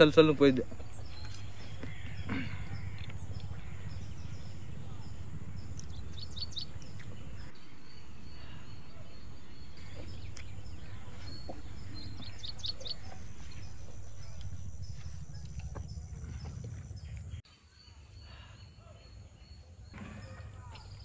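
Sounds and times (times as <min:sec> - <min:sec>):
low outdoor rumble: 0:00.0 - 0:17.4
bird chirping: 0:00.0 - 0:21.0.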